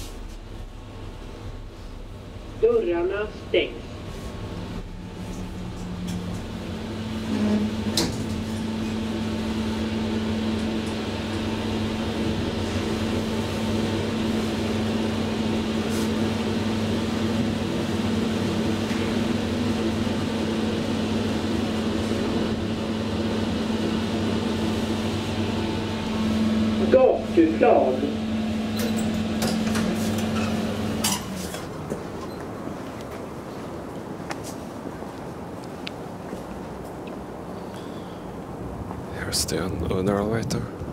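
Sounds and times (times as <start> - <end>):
elevator running hum: 0.0 - 40.9.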